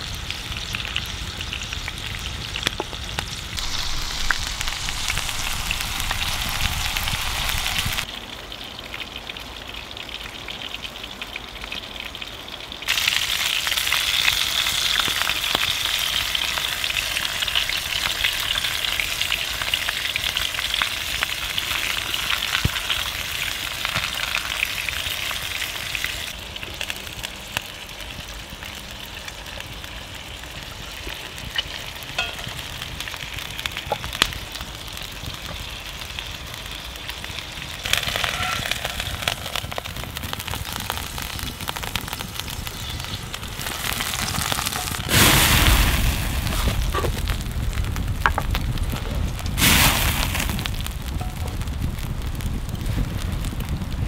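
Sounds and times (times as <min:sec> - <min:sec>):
meat sizzling in a pan: 0:00.0 - 0:09.0, 0:09.6 - 0:54.0.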